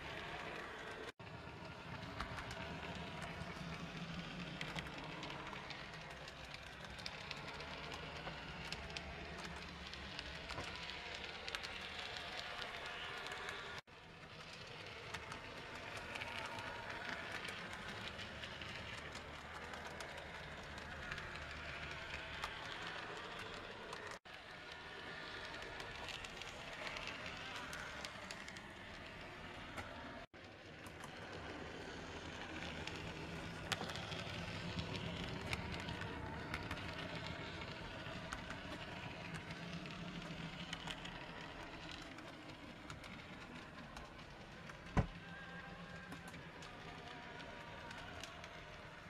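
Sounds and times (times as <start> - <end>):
model tram motor whirring: 0.0 - 49.0.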